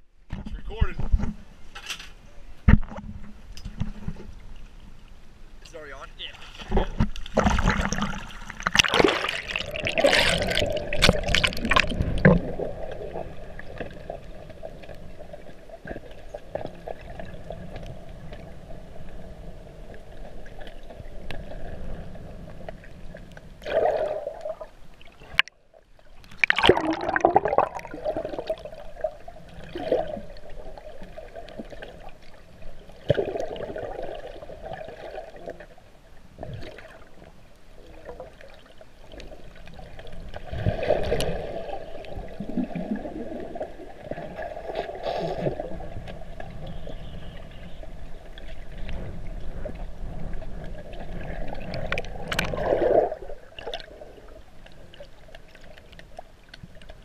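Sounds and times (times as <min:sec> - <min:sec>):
underwater rush of water: 0:05.8 - 0:57.0
water gurgling: 0:05.8 - 0:57.0.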